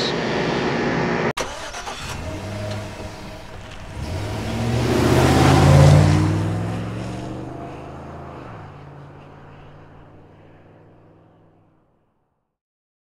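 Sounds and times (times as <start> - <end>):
rushing whoosh: 0.2 - 11.2.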